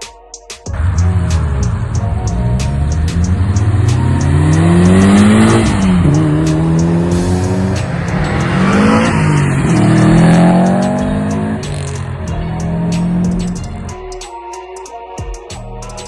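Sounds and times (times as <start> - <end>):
background music with steady beat: 0.0 - 16.0
car engine accelerating hard: 0.7 - 13.9.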